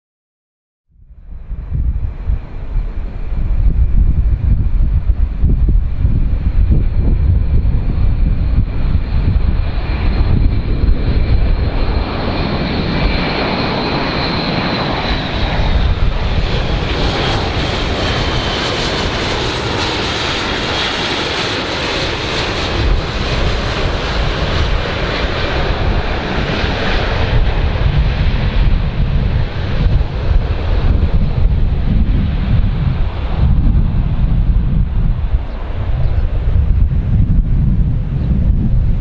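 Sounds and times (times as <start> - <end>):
aeroplane engines running: 1.0 - 39.0
high engine whine: 1.0 - 39.0.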